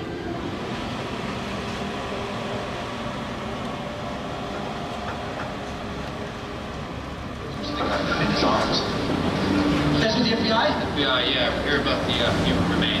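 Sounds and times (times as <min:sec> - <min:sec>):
tram rumbling and rattling: 0:00.0 - 0:13.0.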